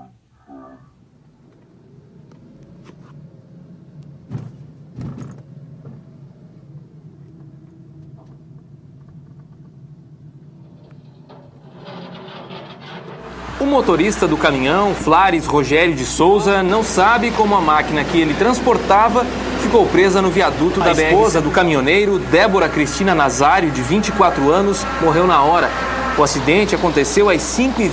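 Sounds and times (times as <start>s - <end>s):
car engine and road noise: 1.0s - 27.9s.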